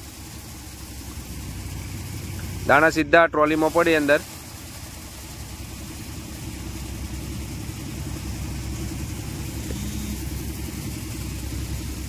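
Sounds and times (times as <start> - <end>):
tractor engine and threshing machine rumble: 0.0 - 12.0.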